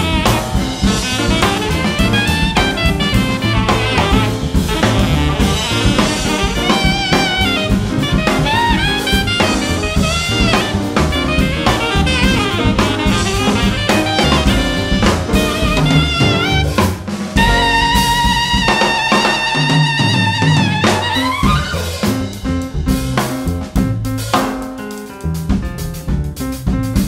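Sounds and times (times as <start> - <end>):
alto saxophone line: 0.0 - 22.7
busy drums: 0.0 - 27.0
jazz quartet playing: 0.0 - 27.0.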